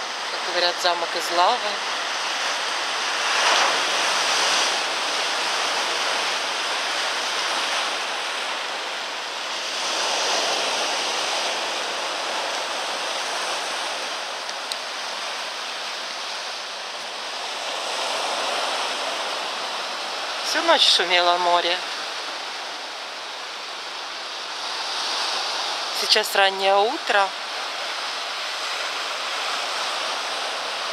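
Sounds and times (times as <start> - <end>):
sea surf breaking: 0.0 - 30.9.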